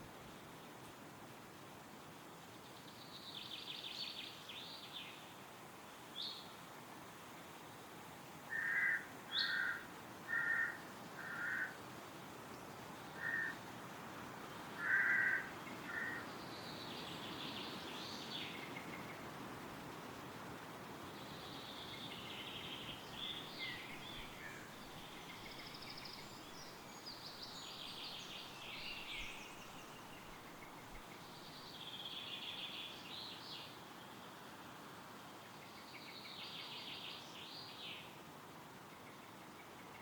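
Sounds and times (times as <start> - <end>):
wind rustling through trees: 0.0 - 40.0.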